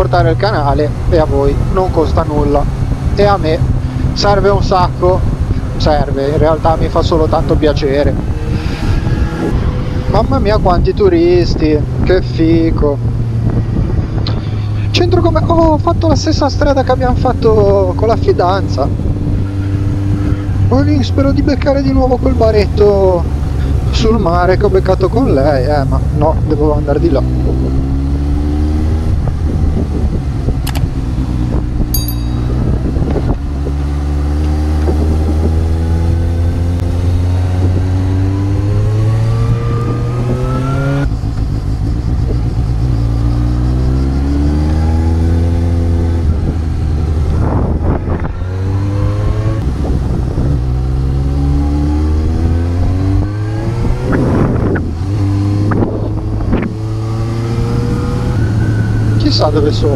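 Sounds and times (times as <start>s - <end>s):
wind buffeting microphone: 0.0s - 16.1s, 16.8s - 22.3s, 25.0s - 43.3s, 44.7s - 59.2s
motorcycle engine accelerating: 0.0s - 24.0s, 24.7s - 59.9s.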